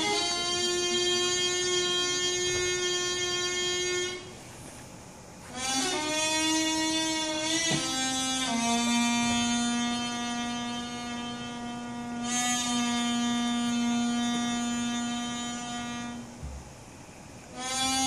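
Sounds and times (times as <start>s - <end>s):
double-reed oboe long note: 0.0s - 4.4s, 5.5s - 16.4s, 17.5s - 18.0s.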